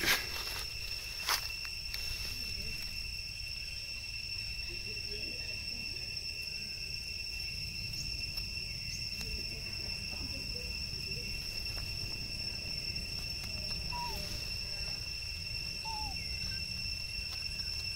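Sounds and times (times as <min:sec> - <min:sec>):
insects droning: 0:00.0 - 0:17.9
low constant rumble: 0:00.1 - 0:17.9.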